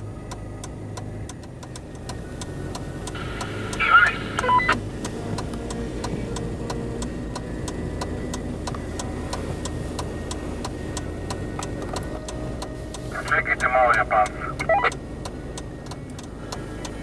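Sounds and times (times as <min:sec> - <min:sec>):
engine running at low revs: 0:00.0 - 0:17.0
regular ticking: 0:00.0 - 0:17.0.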